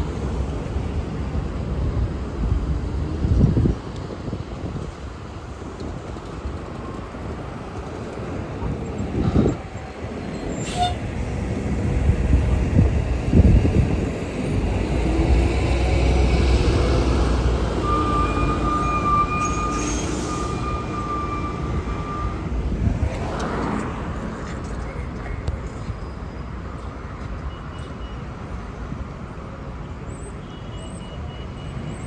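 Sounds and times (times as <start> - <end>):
bus passing: 0.0 - 32.0.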